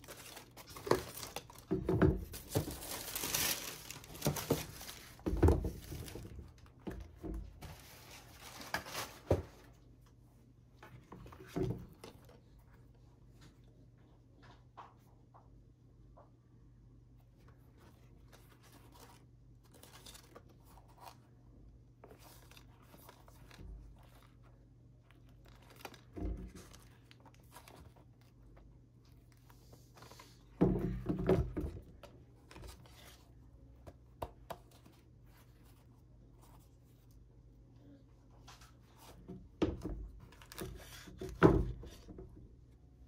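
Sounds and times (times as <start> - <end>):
rustling and crinkling: 0.0 - 15.2, 17.3 - 37.3.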